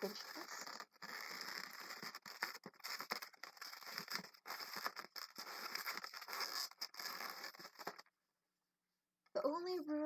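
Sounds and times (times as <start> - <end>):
balloons rubbing and twisting: 0.0 - 8.1.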